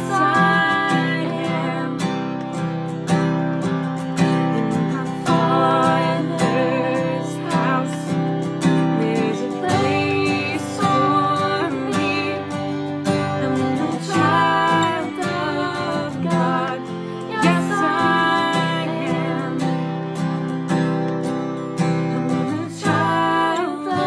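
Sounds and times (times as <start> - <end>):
women singing: 0.0 - 2.7, 4.2 - 20.6, 22.3 - 24.0
violin: 0.0 - 21.6
strummed acoustic guitar: 0.0 - 24.0.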